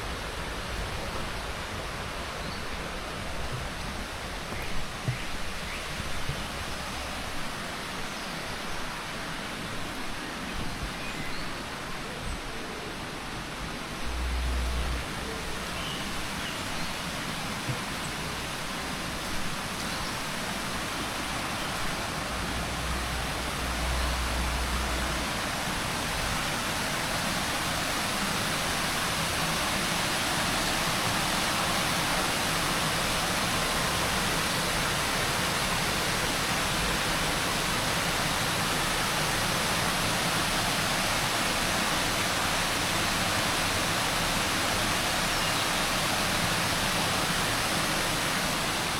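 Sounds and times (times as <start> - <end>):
stream water rushing: 0.0 - 48.9.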